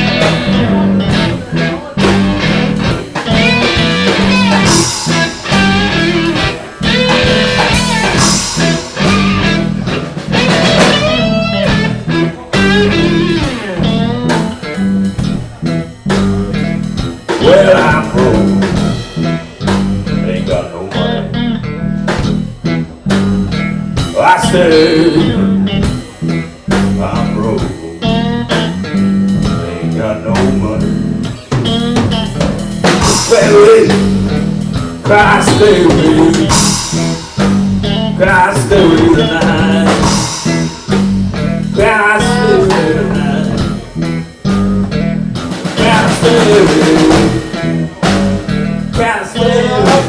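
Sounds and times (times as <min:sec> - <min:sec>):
bass: 0:00.0 - 0:50.0
drums: 0:00.0 - 0:50.0
electric guitar lead: 0:00.0 - 0:50.0.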